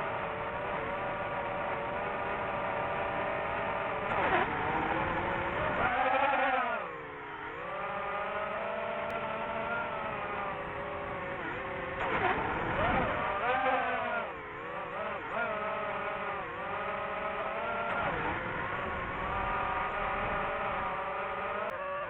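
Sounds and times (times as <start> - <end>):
motor whining: 2.3 - 22.0.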